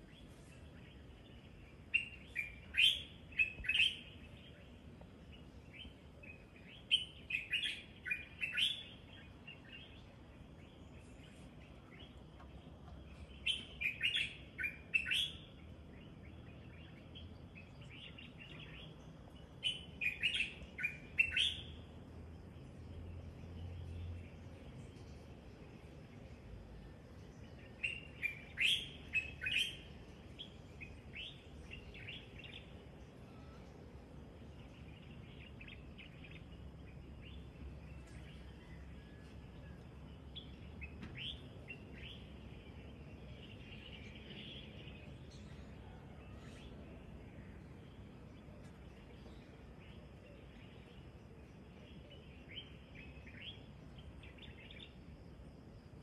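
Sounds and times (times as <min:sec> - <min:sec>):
faint background hum: 0:00.0 - 0:56.0
small birds chirping: 0:00.0 - 0:56.0.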